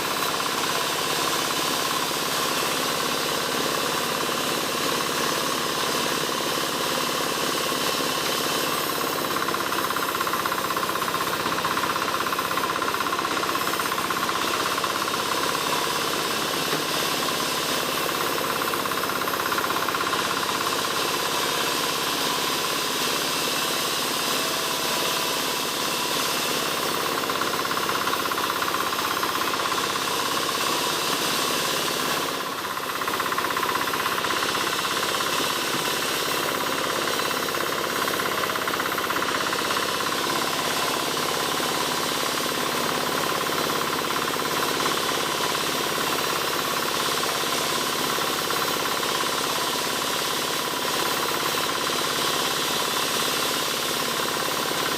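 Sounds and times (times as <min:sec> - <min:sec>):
motorised saw cutting wood: 0:00.0 - 0:54.9.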